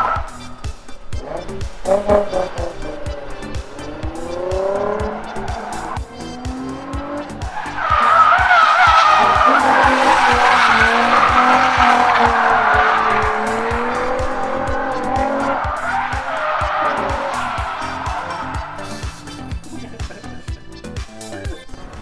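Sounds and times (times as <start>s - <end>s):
car engine revving hard: 0.0s - 19.8s
music with steady beat: 0.0s - 22.0s
tyres squealing and skidding: 0.0s - 22.0s.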